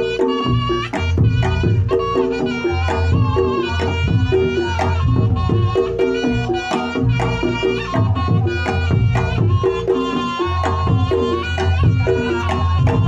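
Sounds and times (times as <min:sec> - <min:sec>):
drum strokes: 0:00.0 - 0:13.0
shawm melody: 0:00.0 - 0:13.0.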